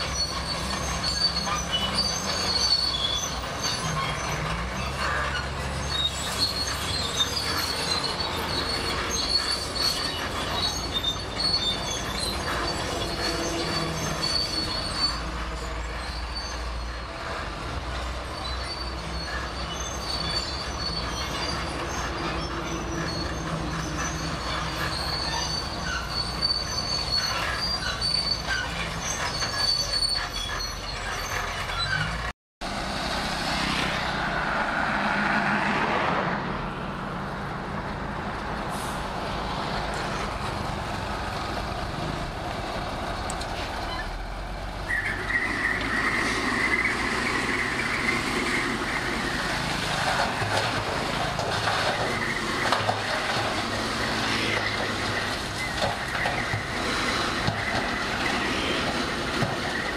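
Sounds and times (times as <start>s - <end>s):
steel tracks squealing and clanking: 0.0s - 32.4s, 33.0s - 59.9s
bulldozer diesel engine running: 0.0s - 35.0s, 37.1s - 59.9s.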